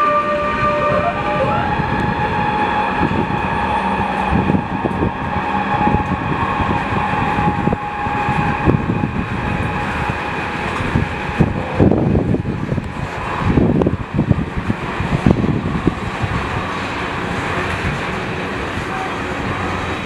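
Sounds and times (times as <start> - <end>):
high whine: 0.0 - 16.8
train wagons rumbling: 0.0 - 20.0.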